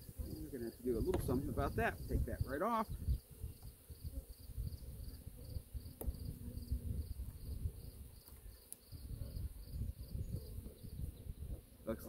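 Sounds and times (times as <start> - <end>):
high insect chirp: 0.0 - 11.8.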